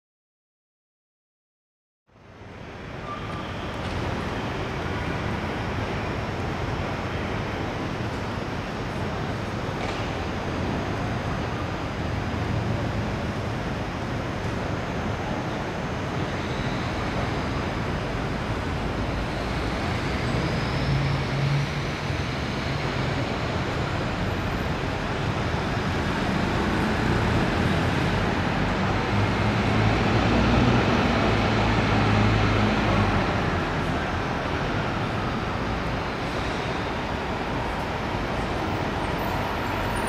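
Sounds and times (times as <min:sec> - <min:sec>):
traffic noise: 0:02.1 - 0:40.0
diesel bus driving: 0:02.2 - 0:40.0.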